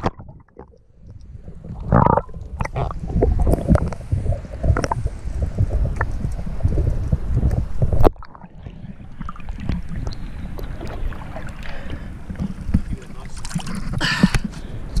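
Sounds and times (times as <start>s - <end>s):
wind on microphone: 0.0s - 15.0s
water sloshing against boat hull: 1.9s - 15.0s.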